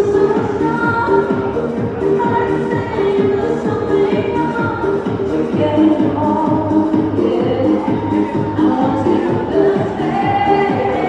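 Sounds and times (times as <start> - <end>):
upbeat eurodance music: 0.0 - 11.0.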